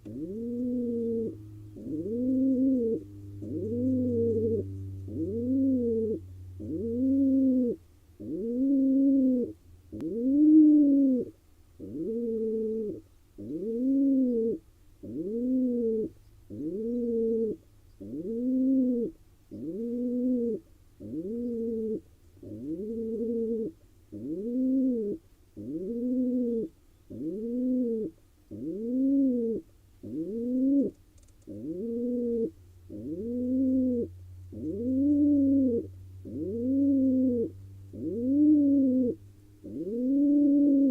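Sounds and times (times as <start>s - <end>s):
faint low hum: 0.0s - 40.9s
pigeon cooing: 0.0s - 40.9s.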